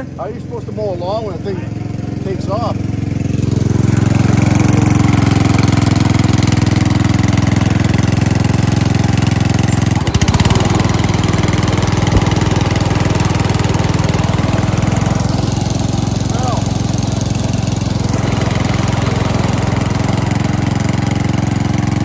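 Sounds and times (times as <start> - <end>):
ride-on lawn mower engine running: 0.0 - 22.0.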